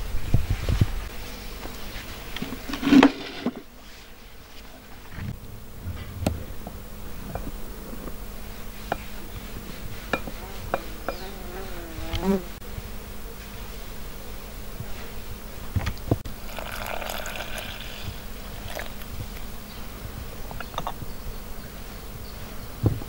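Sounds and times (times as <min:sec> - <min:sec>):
flying insect buzzing: 0:00.3 - 0:22.8.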